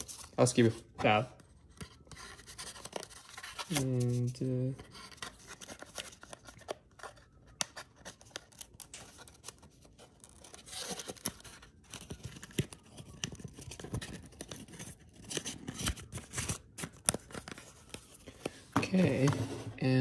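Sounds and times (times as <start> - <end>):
paper and cardboard rustling: 0.0 - 20.0.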